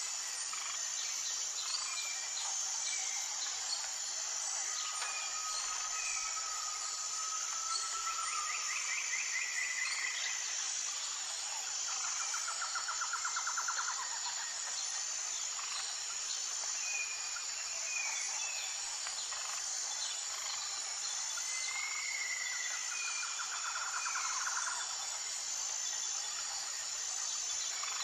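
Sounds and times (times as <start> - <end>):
pulsing insect chorus: 0.0 - 28.0.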